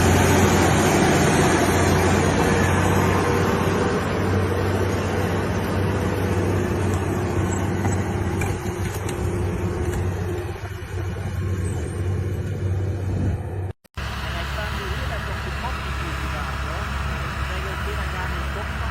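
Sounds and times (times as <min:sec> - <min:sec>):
heavy vehicle engine running: 0:00.0 - 0:18.9.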